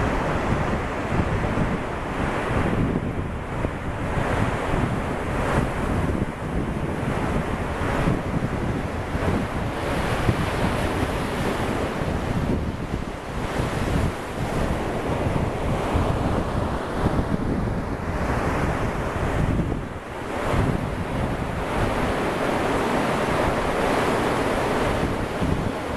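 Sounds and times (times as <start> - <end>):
ocean surf breaking on beach: 0.0 - 25.9
wind buffeting microphone: 0.0 - 25.9.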